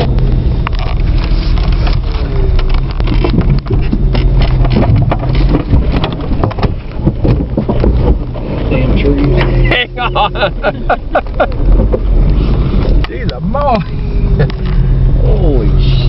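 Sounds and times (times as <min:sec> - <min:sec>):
branches scraping vehicle body: 0:00.7 - 0:14.9.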